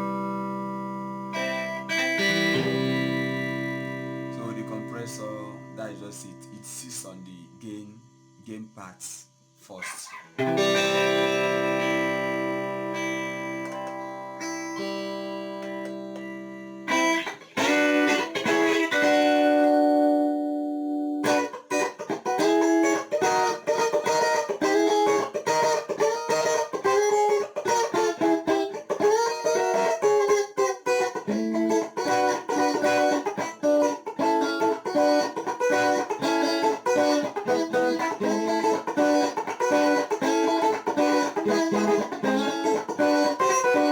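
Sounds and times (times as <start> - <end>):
electric guitar: 0.0 - 6.8, 9.8 - 43.9.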